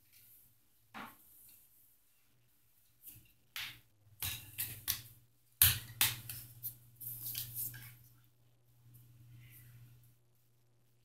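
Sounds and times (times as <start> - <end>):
low steady hum: 2.1 - 11.0.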